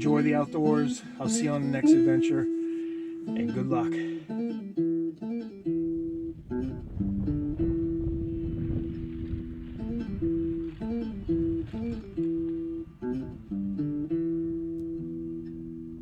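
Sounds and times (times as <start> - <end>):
acoustic guitar picking and strumming: 0.0 - 16.0.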